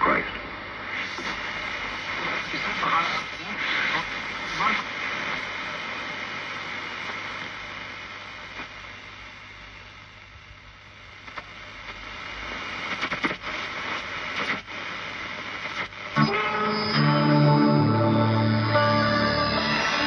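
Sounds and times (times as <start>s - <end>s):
radio station music: 0.0s - 9.0s, 11.2s - 20.0s
radio crackles: 0.0s - 20.0s
shortwave radio static: 0.0s - 20.0s.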